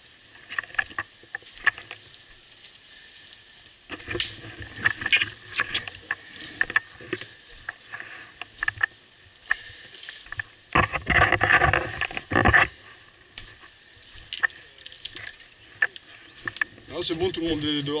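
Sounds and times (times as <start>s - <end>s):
brush rustling against body: 0.0s - 18.0s
footsteps crunching through leaves: 0.0s - 18.0s
twigs snapping: 0.4s - 17.5s.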